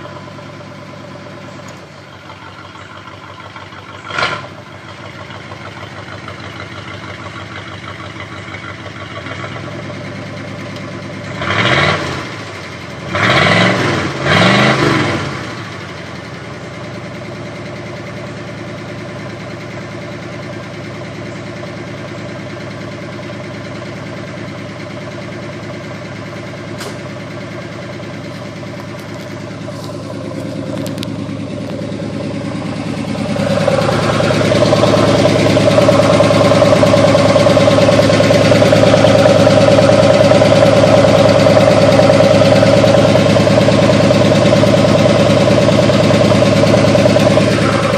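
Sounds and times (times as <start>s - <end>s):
truck engine idling and revving: 0.0s - 47.9s.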